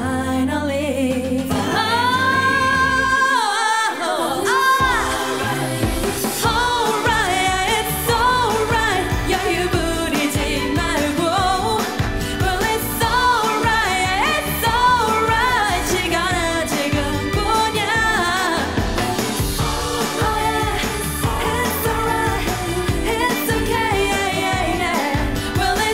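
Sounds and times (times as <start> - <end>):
pop song with singing: 0.0 - 25.9.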